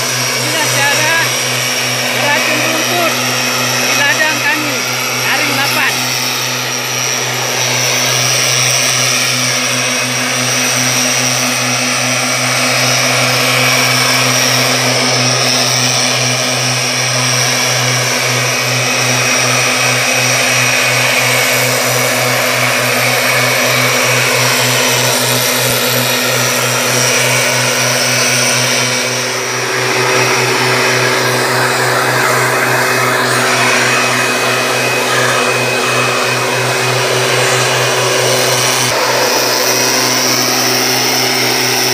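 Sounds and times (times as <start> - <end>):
two-stroke engine running at high speed: 0.0 - 41.9.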